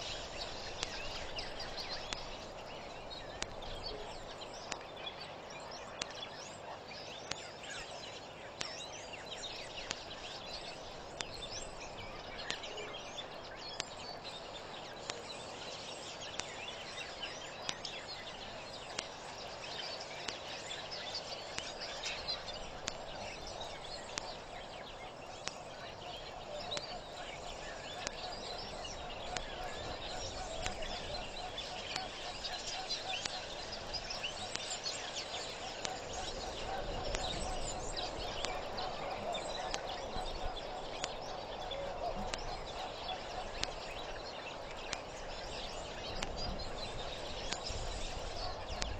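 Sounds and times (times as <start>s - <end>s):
birds chirping and calling: 0.0s - 4.9s, 6.8s - 48.9s
faint tick: 0.0s - 5.0s, 6.0s - 48.9s
steady background haze: 0.0s - 48.9s.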